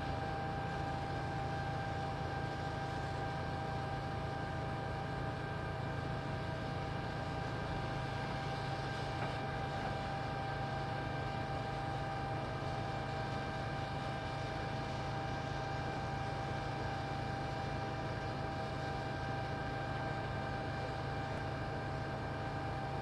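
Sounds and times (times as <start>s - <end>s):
construction machinery engine hum: 0.0s - 23.0s
steady whine: 0.0s - 23.0s.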